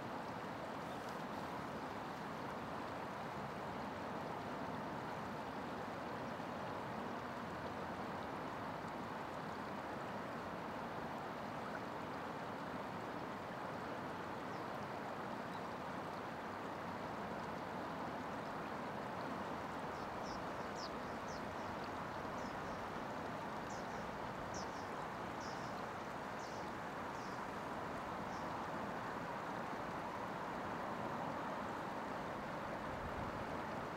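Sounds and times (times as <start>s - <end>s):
flowing river water: 0.0s - 33.9s.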